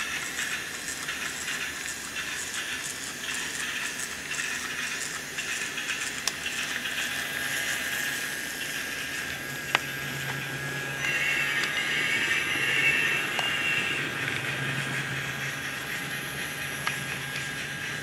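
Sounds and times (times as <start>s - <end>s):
toy train rolling on track: 0.0s - 18.0s.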